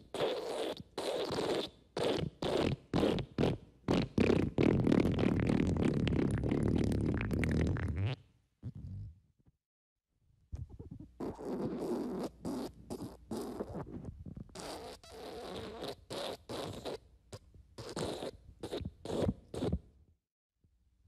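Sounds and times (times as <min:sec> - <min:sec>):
sputtering fart sounds: 0:00.1 - 0:09.2, 0:10.6 - 0:17.0, 0:17.8 - 0:19.8.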